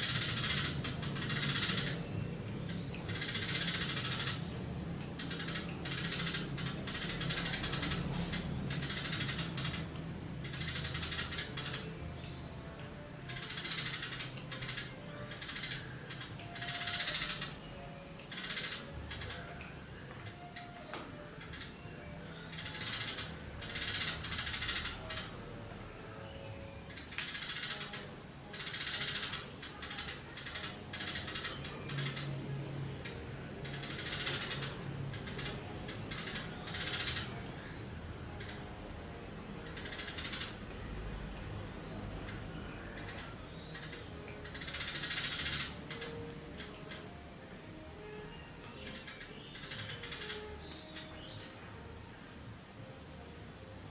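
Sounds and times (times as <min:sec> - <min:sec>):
sparrow chattering chirps: 0:00.0 - 0:19.6, 0:20.3 - 0:25.4, 0:26.6 - 0:32.4, 0:33.0 - 0:38.8, 0:39.6 - 0:40.7, 0:42.0 - 0:47.2, 0:48.7 - 0:51.8.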